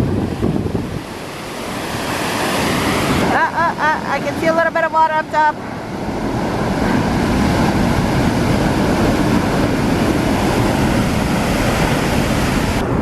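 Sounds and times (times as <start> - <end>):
waterfall roaring: 0.0 - 13.0
wind buffeting microphone: 0.0 - 13.0.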